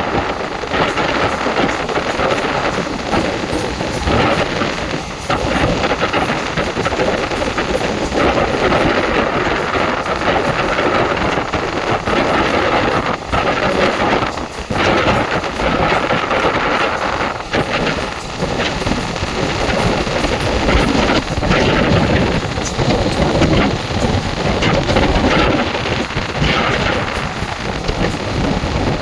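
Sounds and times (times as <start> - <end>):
rushing air: 0.0 - 29.0
steel wheels rumbling on rails: 0.0 - 29.0.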